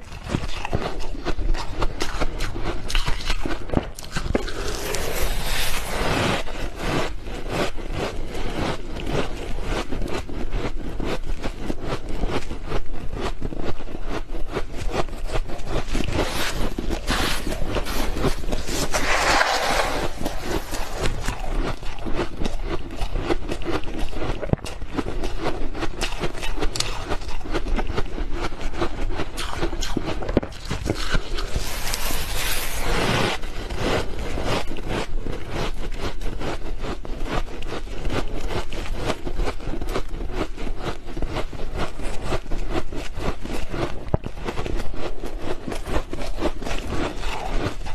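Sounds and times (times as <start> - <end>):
frost being scraped and crunched: 0.1 - 47.9.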